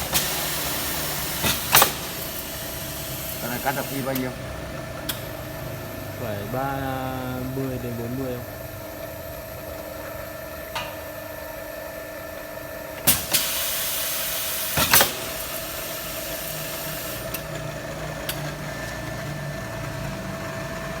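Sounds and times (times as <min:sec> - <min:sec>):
machine hissing: 0:00.0 - 0:09.5, 0:13.0 - 0:20.9
pipe-cutting machine humming: 0:00.0 - 0:21.0.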